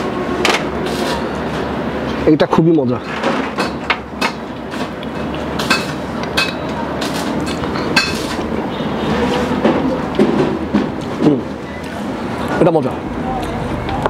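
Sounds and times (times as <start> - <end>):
steady background din: 0.0 - 14.0.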